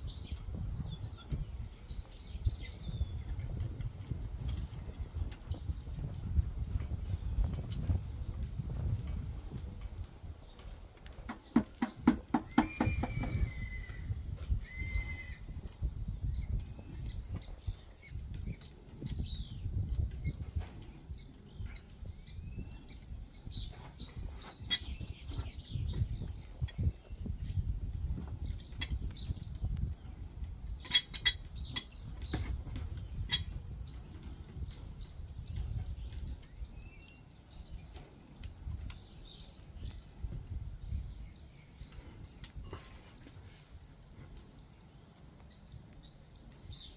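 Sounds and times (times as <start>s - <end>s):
birds chirping: 0.0s - 46.9s
low wind rumble: 0.0s - 46.9s.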